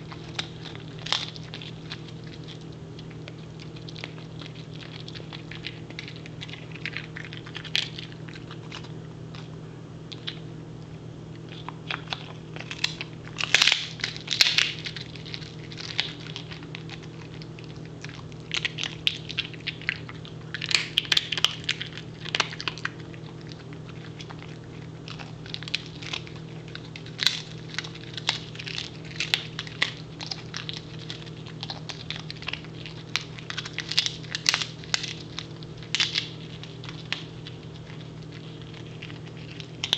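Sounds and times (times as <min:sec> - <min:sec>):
dog crunching a chew: 0:00.0 - 0:39.9
steady low hum: 0:00.0 - 0:39.9.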